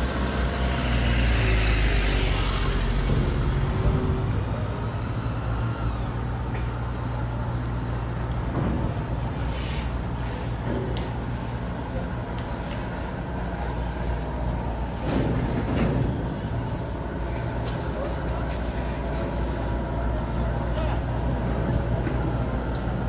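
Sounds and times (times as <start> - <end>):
diesel machinery humming: 0.0 - 23.0.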